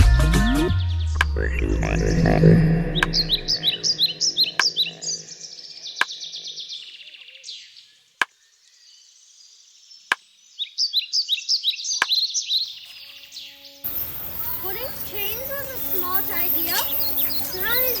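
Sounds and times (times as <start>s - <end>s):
small birds chirping: 3.3s - 18.0s.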